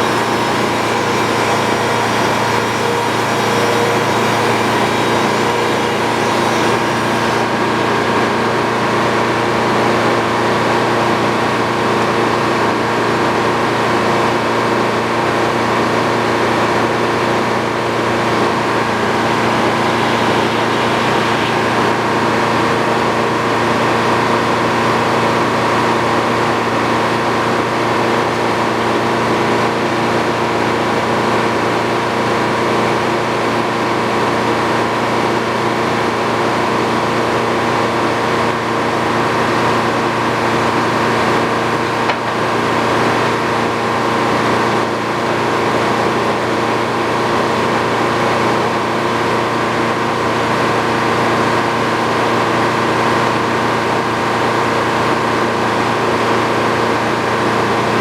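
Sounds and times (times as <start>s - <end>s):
sawmill sawing wood: 0.0s - 58.0s.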